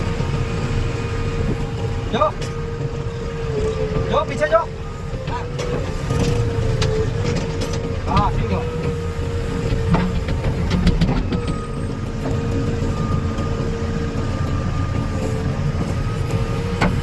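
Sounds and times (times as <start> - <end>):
diesel engines running: 0.0 - 17.0
engine whine: 0.0 - 17.0.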